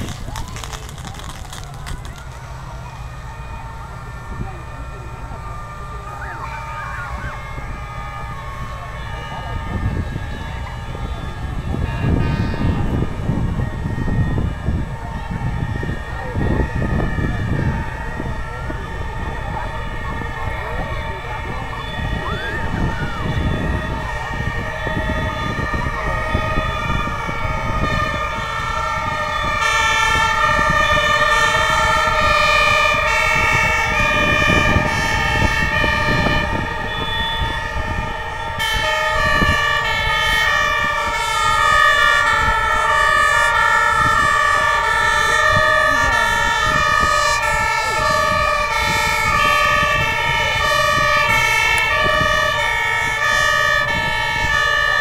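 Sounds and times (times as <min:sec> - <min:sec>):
fire engine two-tone sirens: 0:00.0 - 0:55.0.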